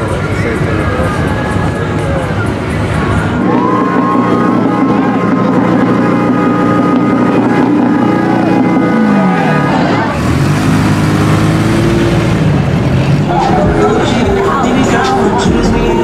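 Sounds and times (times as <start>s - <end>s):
crowd chatter: 0.0s - 16.0s
truck engines passing: 0.0s - 16.0s.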